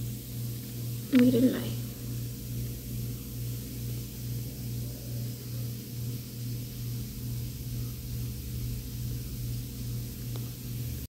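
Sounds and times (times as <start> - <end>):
pulsing low mechanical hum: 0.0 - 11.0.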